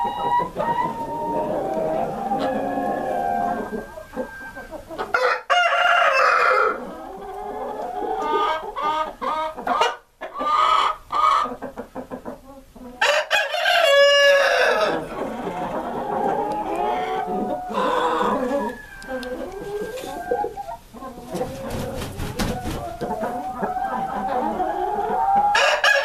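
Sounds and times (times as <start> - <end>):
chicken drawn-out calls: 0.0 - 26.0
chickens clucking: 0.0 - 26.0.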